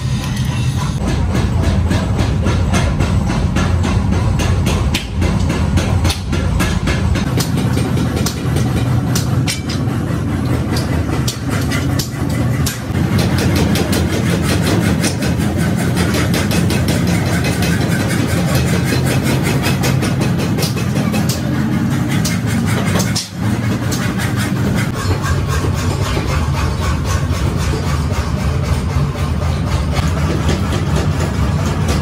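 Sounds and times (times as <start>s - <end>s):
low machine drone: 0.0s - 32.0s
metal clanks and knocks: 0.2s - 32.0s.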